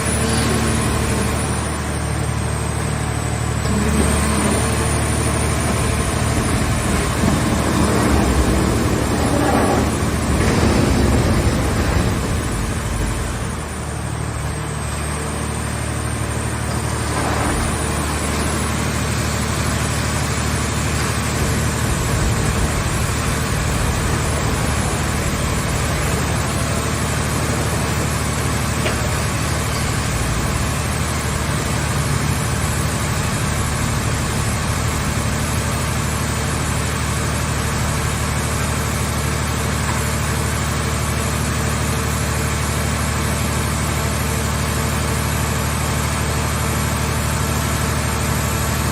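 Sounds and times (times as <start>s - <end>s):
baler engine running: 0.0s - 48.9s.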